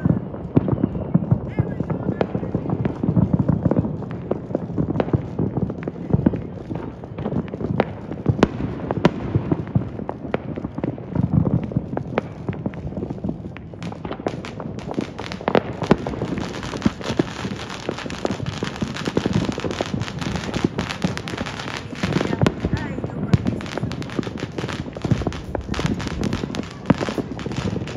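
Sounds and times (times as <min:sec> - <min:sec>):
fireworks popping and banging: 0:00.0 - 0:27.9
loud firework cracks: 0:00.0 - 0:27.9.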